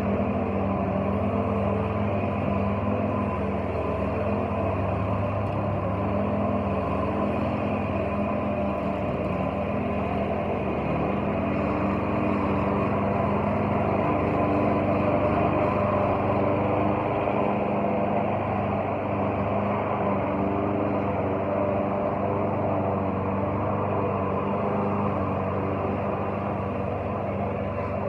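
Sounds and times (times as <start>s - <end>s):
lawn mower running: 0.0s - 28.0s.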